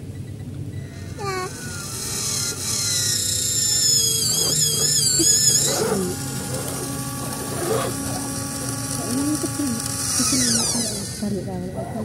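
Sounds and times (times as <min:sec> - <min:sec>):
electric motor whining: 0:00.8 - 0:12.0.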